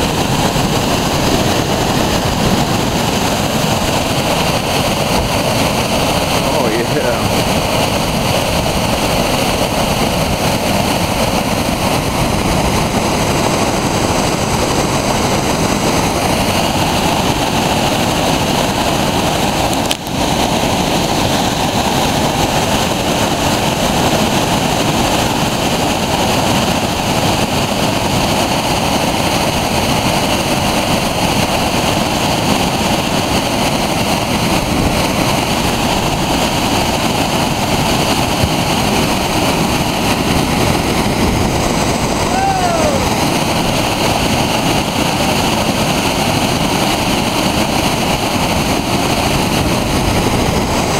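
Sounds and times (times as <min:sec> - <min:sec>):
rapids rushing over boulders: 0:00.0 - 0:50.9.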